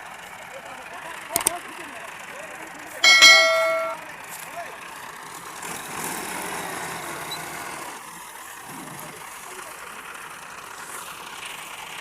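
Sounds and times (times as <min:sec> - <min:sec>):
running vehicles: 0:00.0 - 0:12.0.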